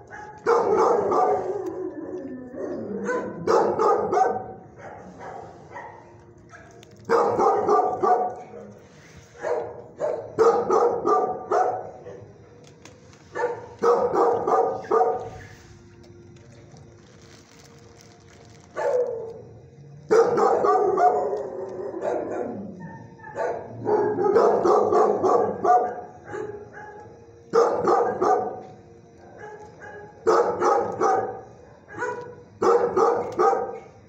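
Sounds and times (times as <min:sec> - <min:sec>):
dogs barking: 0:00.0 - 0:12.4, 0:13.3 - 0:15.6, 0:18.6 - 0:19.5, 0:20.1 - 0:34.0.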